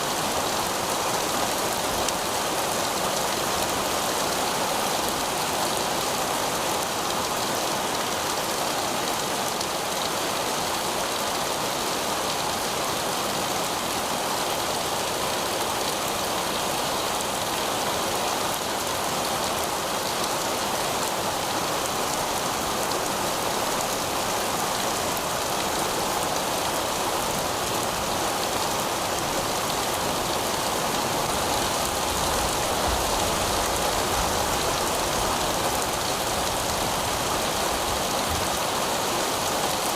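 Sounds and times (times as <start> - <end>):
heavy rain on pavement: 0.0 - 39.9.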